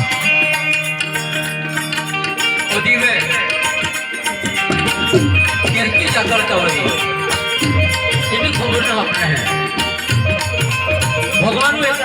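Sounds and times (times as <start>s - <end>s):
held melodic notes: 0.0s - 12.0s
tabla percussion beat: 0.0s - 12.0s.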